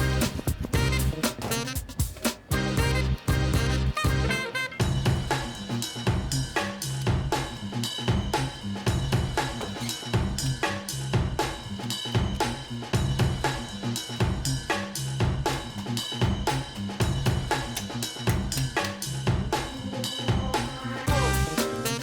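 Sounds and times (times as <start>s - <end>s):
music with drum beat and bass: 0.0s - 22.0s.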